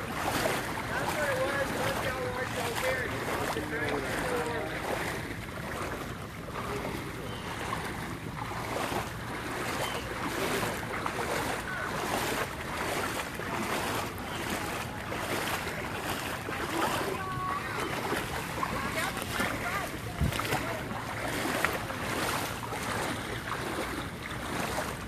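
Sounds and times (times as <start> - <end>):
people wading through water: 0.0 - 25.0.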